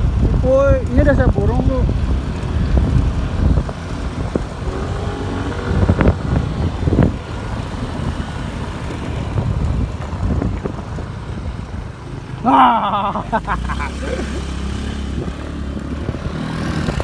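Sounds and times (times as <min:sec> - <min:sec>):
wind noise on microphone: 0:00.0 - 0:12.2, 0:14.2 - 0:17.0
vehicle engine running: 0:00.0 - 0:17.0.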